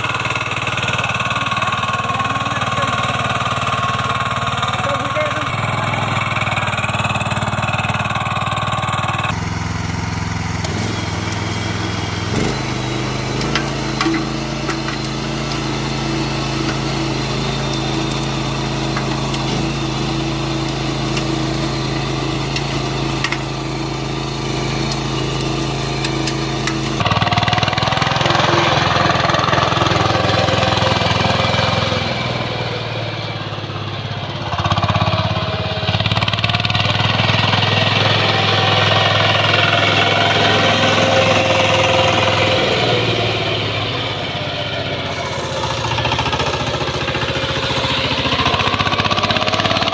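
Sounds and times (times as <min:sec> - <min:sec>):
engine with wavering pitch: 0:00.0 - 0:49.9
walk-behind tractor engine running: 0:00.0 - 0:49.9.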